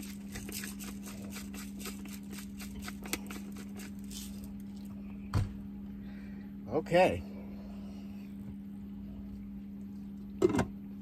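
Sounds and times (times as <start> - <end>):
electric cooktop humming: 0.0 - 11.0.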